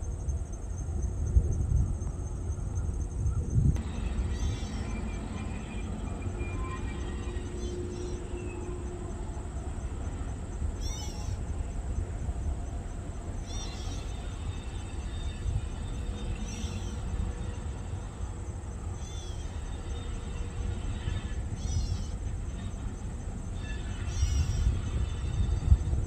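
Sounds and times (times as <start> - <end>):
diesel locomotive rumbling: 0.0 - 26.0.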